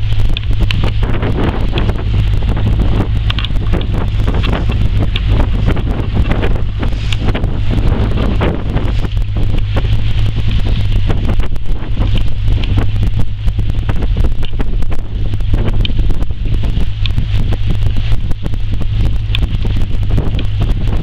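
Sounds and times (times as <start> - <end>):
boat engine burbling: 0.0 - 21.0
wind buffeting microphone: 0.0 - 21.0.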